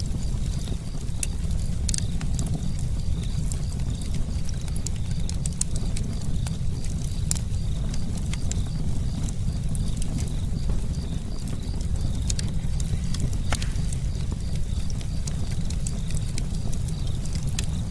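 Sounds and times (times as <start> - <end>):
campfire crackling: 0.0 - 17.9
steady low rumble: 0.0 - 17.9.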